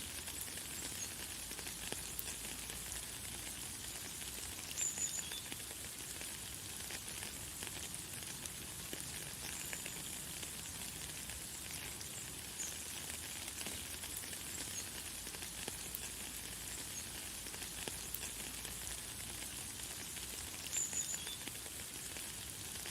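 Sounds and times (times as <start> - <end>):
light rain falling: 0.0 - 22.9.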